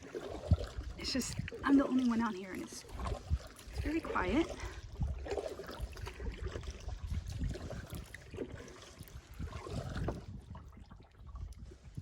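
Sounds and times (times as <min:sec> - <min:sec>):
paddle strokes splashing water: 0:00.0 - 0:12.0
wind buffeting microphone: 0:00.0 - 0:12.0.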